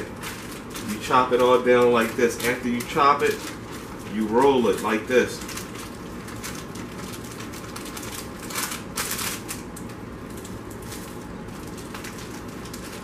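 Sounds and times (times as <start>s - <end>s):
snack bag crinkling: 0.0s - 13.0s.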